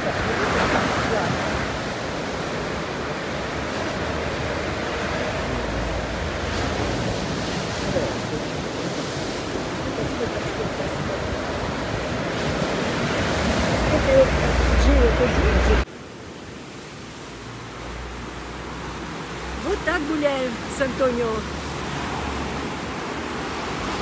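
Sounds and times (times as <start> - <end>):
waves washing up a beach: 0.0 - 24.0.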